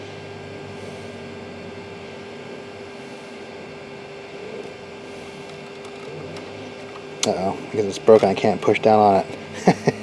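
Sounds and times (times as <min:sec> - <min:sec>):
cooling fans whirring: 0:00.0 - 0:10.0
low hum: 0:00.0 - 0:10.0.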